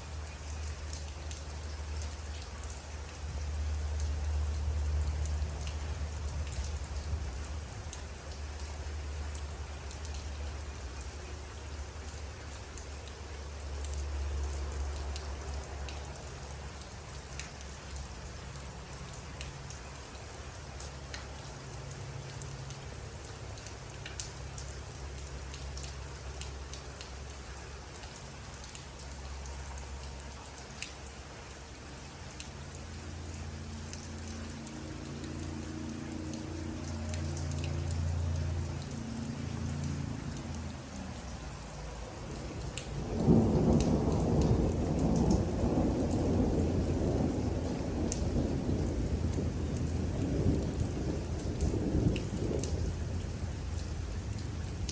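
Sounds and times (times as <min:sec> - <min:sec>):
raindrops ticking: 0:00.0 - 0:54.9
steady rain hiss: 0:00.0 - 0:54.9.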